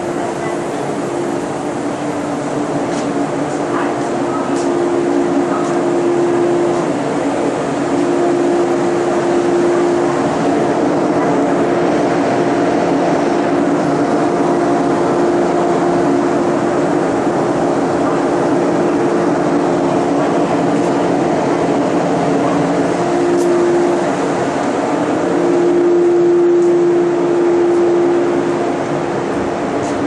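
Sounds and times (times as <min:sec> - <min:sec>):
train equipment humming: 0:00.0 - 0:30.0.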